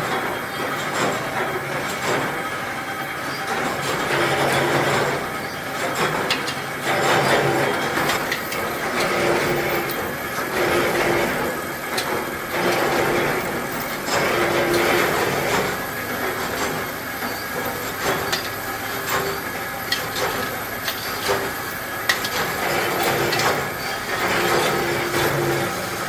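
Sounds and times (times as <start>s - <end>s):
machine hum: 0.0s - 26.0s
machinery clattering: 0.0s - 26.0s.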